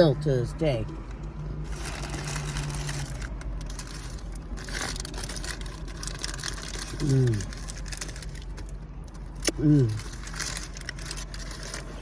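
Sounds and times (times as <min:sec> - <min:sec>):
food wrapping crinkling: 0:01.7 - 0:12.0.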